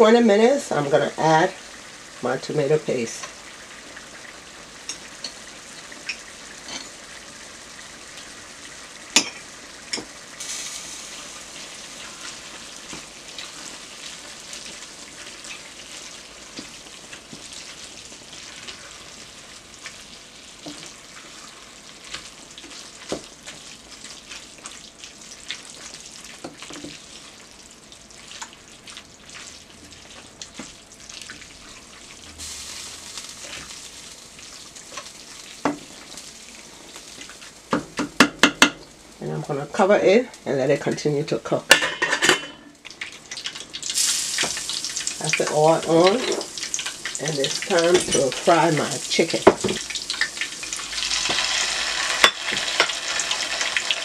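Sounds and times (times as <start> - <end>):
cabbage sizzling in a pot: 0.0 - 54.0.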